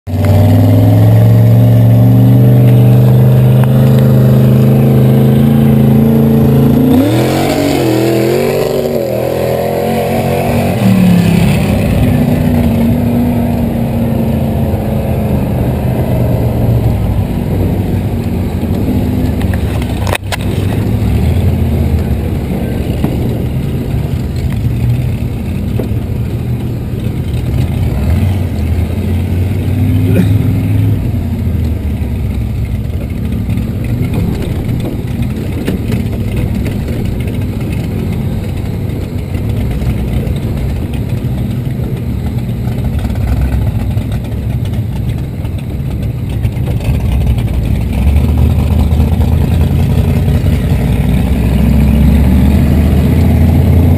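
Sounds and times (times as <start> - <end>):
vehicle engine revving: 0.1 - 53.9.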